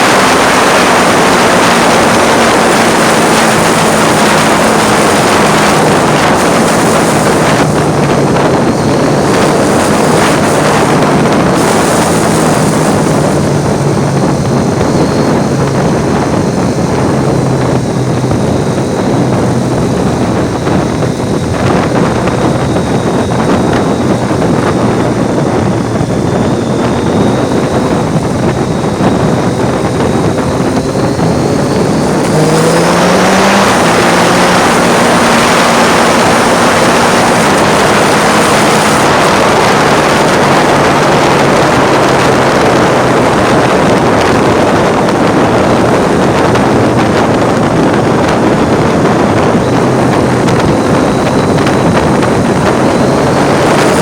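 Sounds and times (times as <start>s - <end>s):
motorcycle engine: 0.0s - 54.0s
wind rush on microphone: 0.0s - 54.0s.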